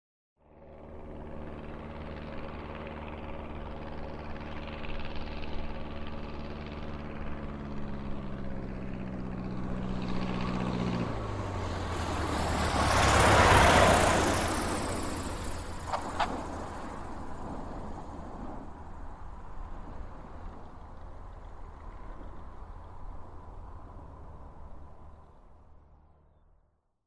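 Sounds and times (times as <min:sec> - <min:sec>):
propeller aircraft engine drone: 0:00.4 - 0:26.8.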